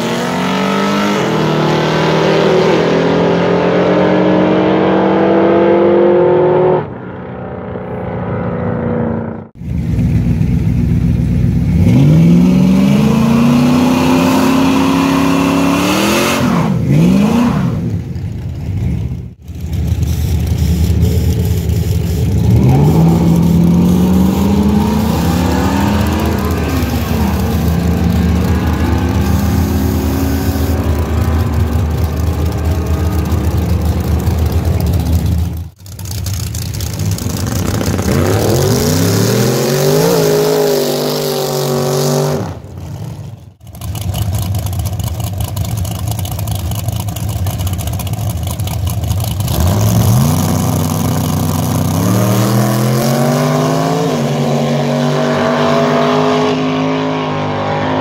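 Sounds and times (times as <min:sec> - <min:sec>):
race car engines accelerating: 0:00.0 - 0:09.9, 0:11.6 - 0:45.7, 0:49.1 - 0:58.0.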